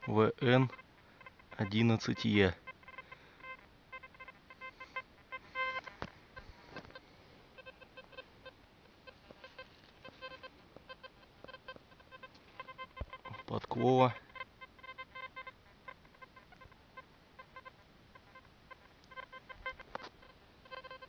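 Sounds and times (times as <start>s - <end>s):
metal detector beeping: 0.0s - 21.0s.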